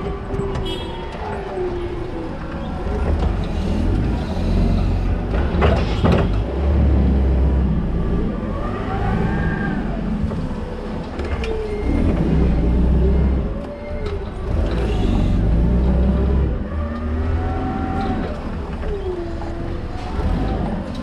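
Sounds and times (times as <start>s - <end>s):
forklift rumbling and whining: 0.0s - 21.0s.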